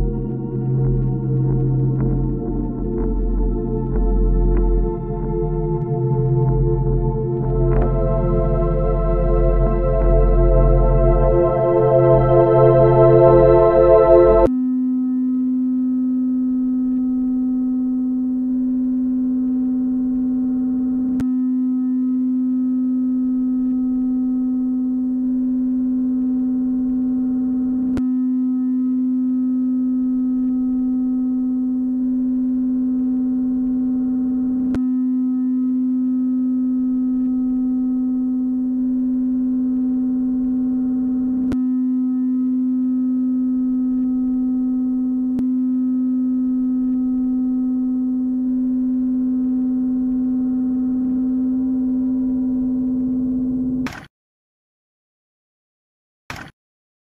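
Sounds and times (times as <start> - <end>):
low drone tone: 0.0 - 53.9.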